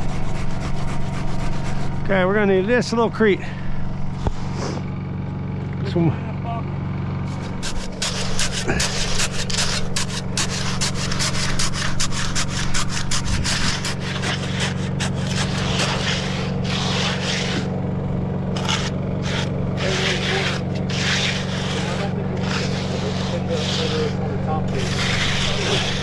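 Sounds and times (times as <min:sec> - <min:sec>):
hand tool scraping concrete: 0:00.0 - 0:03.4, 0:04.1 - 0:04.9, 0:07.2 - 0:17.8, 0:18.5 - 0:26.0
engine idling: 0:00.1 - 0:26.0.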